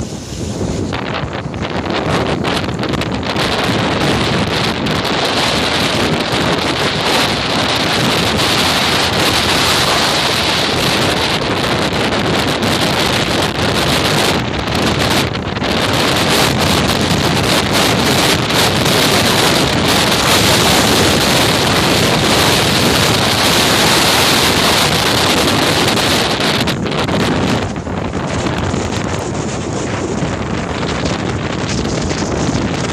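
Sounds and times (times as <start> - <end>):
waves slapping against seawall: 0.0 - 32.9
wind buffeting microphone: 0.0 - 32.9.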